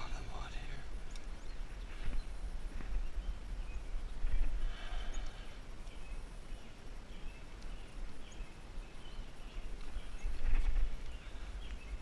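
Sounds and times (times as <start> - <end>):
faint bird chirps: 0.0 - 12.0
wind rumbling on microphone: 0.0 - 12.0.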